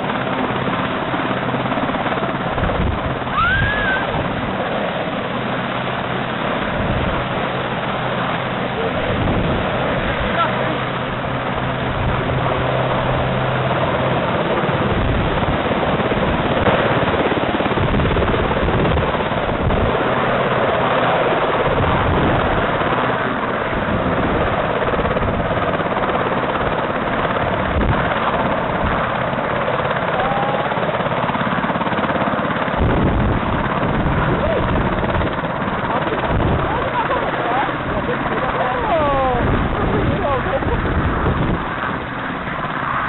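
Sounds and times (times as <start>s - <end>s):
helicopter rotor roar: 0.0s - 43.0s.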